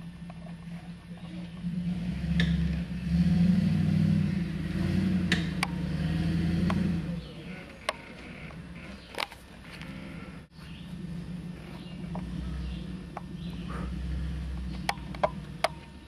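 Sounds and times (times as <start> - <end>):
car engine under load: 0.0 - 16.0.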